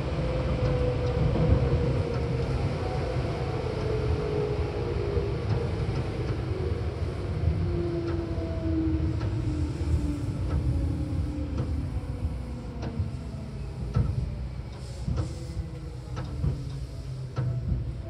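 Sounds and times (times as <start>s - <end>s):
low train rumble: 0.0s - 18.0s.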